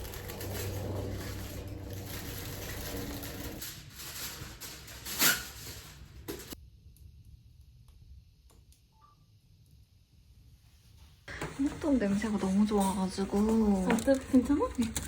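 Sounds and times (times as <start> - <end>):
wood stove crackling: 0.0 - 8.9, 11.2 - 15.0.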